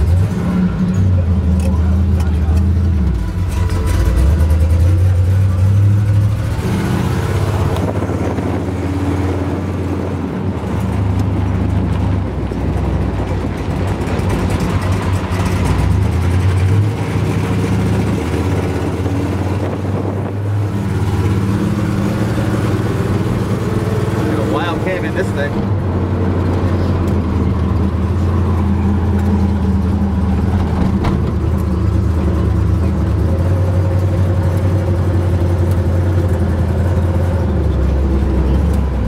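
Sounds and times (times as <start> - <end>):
truck engine accelerating: 0.0 - 39.0.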